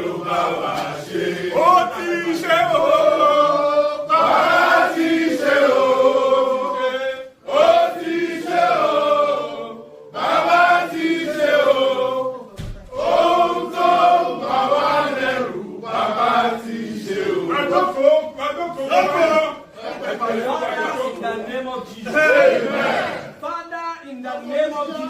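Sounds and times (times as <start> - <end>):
group of people singing: 0.0 - 21.3, 22.0 - 23.4.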